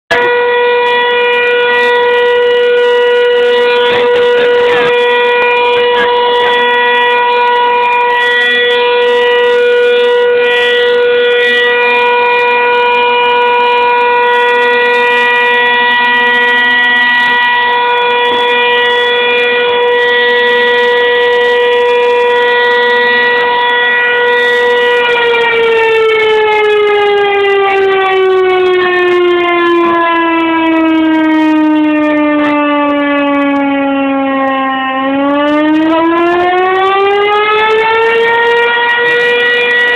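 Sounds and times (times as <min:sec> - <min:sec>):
fire alarm siren wailing: 0:00.1 - 0:39.9.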